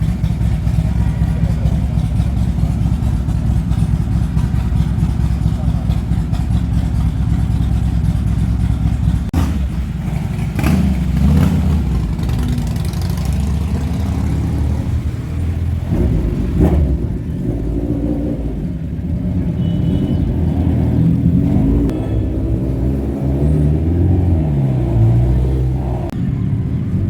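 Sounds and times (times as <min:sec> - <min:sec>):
motorcycle engines idling and revving: 0:00.0 - 0:27.0.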